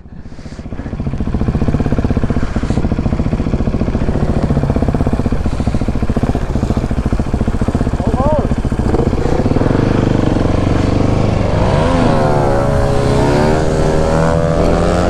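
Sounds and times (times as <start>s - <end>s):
single-cylinder motorcycle engine: 0.0s - 15.0s.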